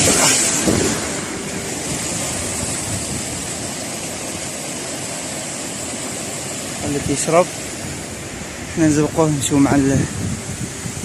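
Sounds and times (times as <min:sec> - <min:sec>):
wind rushing across microphone: 0:00.0 - 0:04.8, 0:05.8 - 0:11.0.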